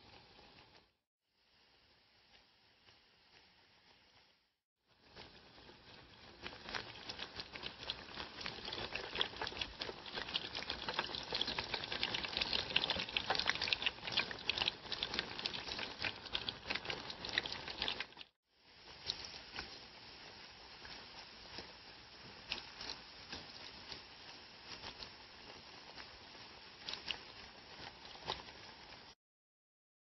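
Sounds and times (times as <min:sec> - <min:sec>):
eggplant frying in hot oil: 0:00.0 - 0:29.2.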